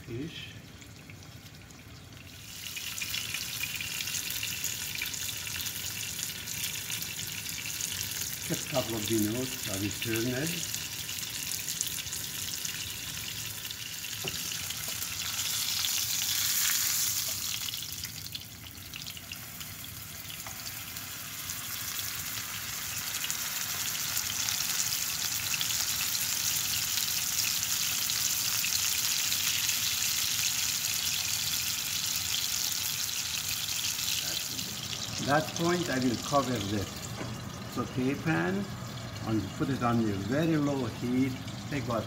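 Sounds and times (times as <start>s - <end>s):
fish sizzling in a frying pan: 0.1s - 42.0s.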